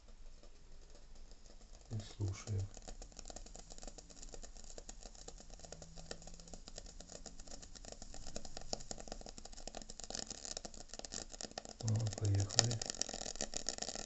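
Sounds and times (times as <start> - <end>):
water heater crackling and sizzling: 0.0 - 14.0.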